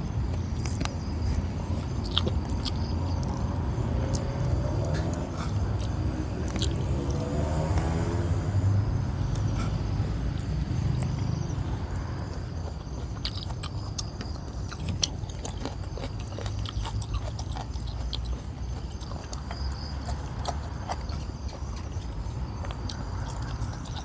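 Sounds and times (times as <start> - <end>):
crickets chirring: 0.0 - 24.0
person chewing food: 0.1 - 7.6, 9.2 - 24.0.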